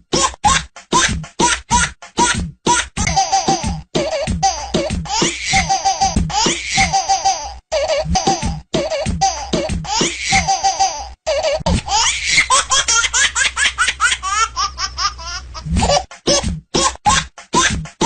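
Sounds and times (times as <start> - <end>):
baby laughing: 0.2 - 18.0.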